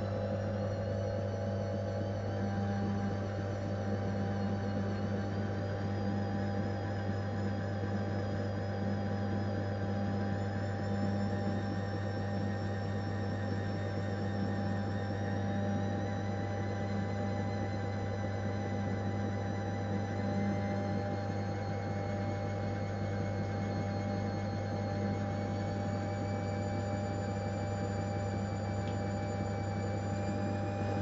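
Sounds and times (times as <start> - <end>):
washing machine humming: 0.0 - 31.0.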